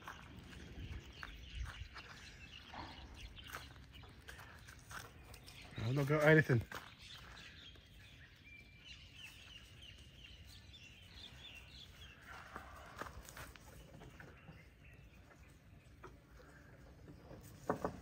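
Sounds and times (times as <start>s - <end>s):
distant bird chirps: 0.0s - 18.0s.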